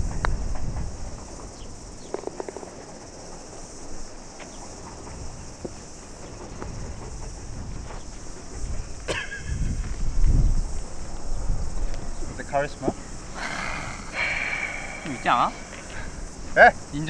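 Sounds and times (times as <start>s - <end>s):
high-pitched insect chorus: 0.1s - 17.0s.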